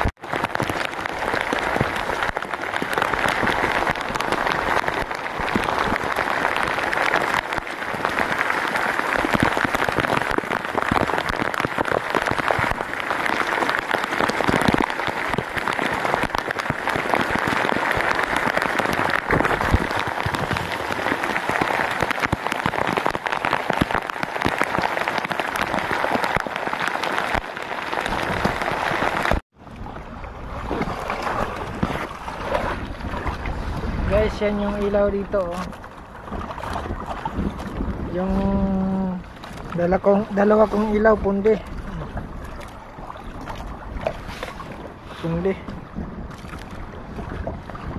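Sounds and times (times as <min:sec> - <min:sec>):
rain on a plastic raincoat: 0:00.0 - 0:29.5, 0:30.5 - 0:47.9.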